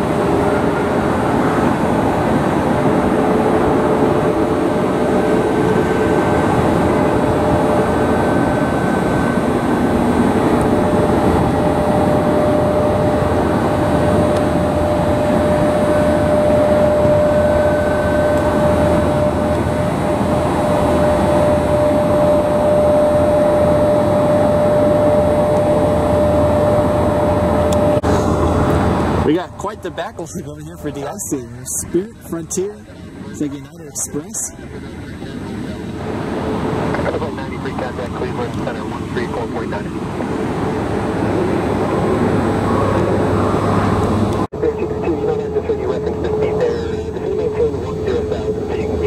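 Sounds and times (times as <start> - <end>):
jet engines roaring and whining: 0.0 - 49.0.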